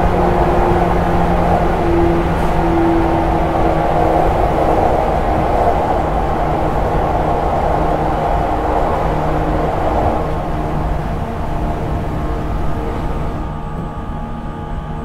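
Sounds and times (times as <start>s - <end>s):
wheel and rail rumble: 0.0s - 14.6s
traction motors humming: 0.0s - 15.0s.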